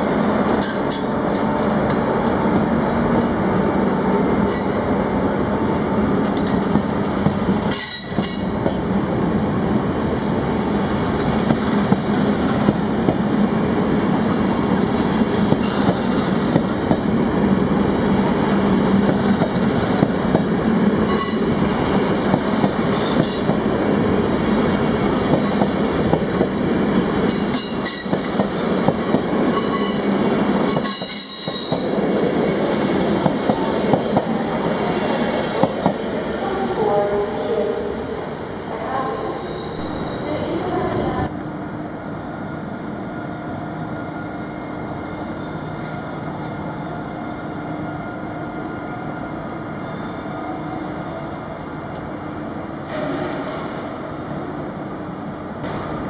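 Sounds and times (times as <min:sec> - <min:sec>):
train wheels rumbling on rail: 0:00.0 - 0:41.6, 0:42.4 - 0:56.0.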